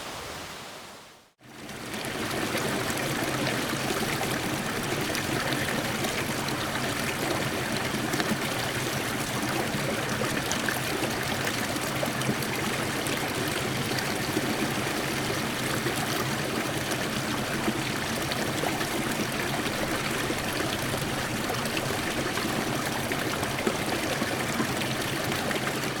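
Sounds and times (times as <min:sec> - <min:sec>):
stream water running: 0:00.0 - 0:26.0.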